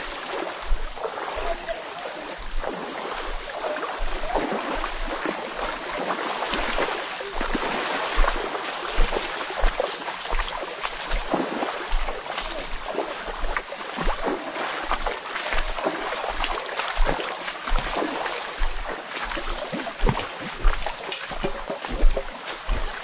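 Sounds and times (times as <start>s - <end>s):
water sloshing and splashing: 0.0s - 23.0s.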